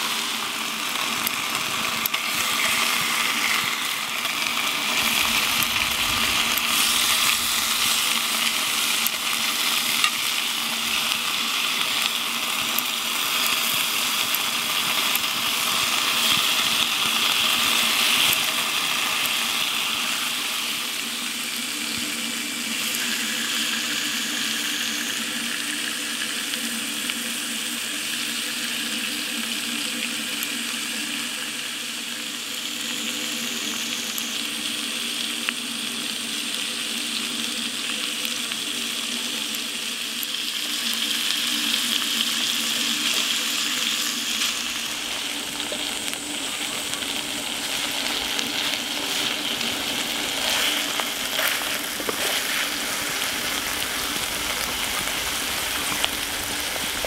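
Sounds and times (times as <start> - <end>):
chicken sizzling in a skillet: 0.0 - 57.0.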